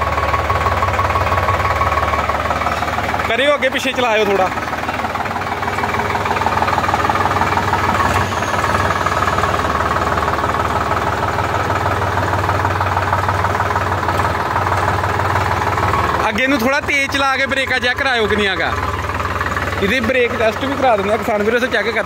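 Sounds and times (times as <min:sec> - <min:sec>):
tractor diesel engine at low revs: 0:00.0 - 0:22.0.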